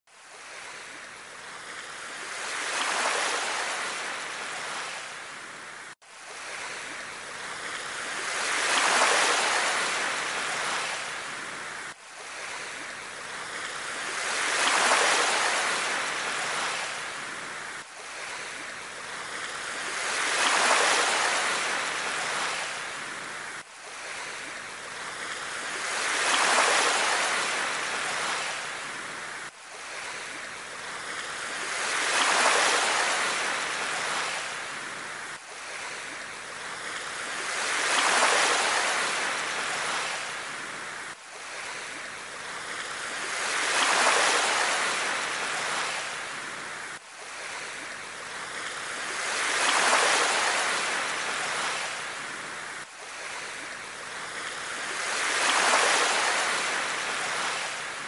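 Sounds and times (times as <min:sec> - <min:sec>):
rushing water: 0:00.1 - 0:58.0.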